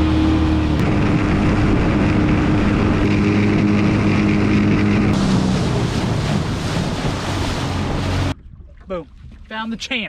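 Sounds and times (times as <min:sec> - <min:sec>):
outboard motor hum: 0:00.0 - 0:09.8
rushing wind and water: 0:00.0 - 0:10.0.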